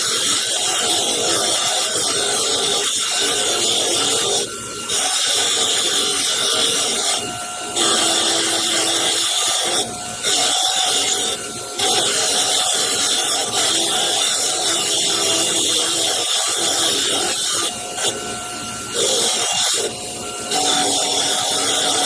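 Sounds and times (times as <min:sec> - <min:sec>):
wire wheel scrubbing metal: 0:00.0 - 0:22.0.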